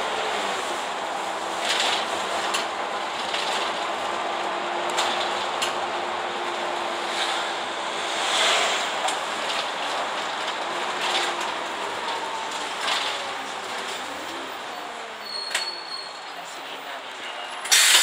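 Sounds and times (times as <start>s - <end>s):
bus road and engine noise: 0.0s - 18.0s.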